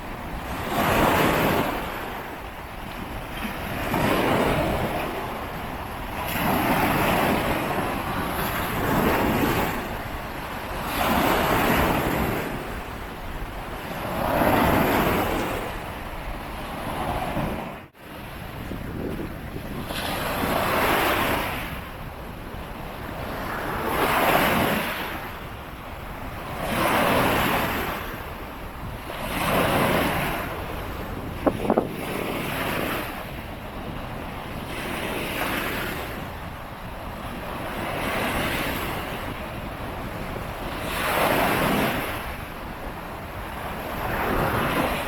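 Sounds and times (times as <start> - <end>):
waves breaking on shore: 0.0 - 45.0
wind buffeting microphone: 0.0 - 45.0.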